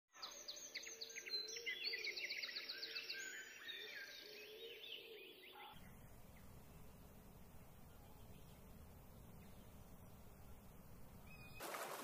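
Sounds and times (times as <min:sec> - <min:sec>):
birds chirping and trilling: 0:00.1 - 0:11.6.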